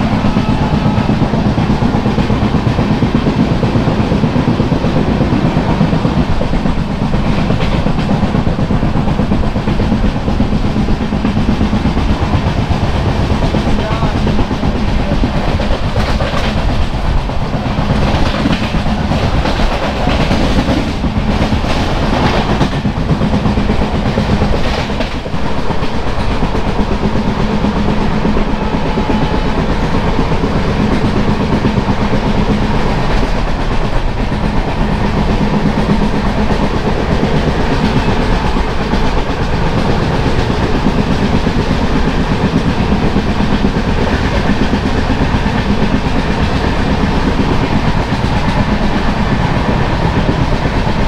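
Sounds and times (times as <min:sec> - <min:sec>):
train coach rumble: 0:00.0 - 0:51.0
wheels clattering on track: 0:00.0 - 0:51.0.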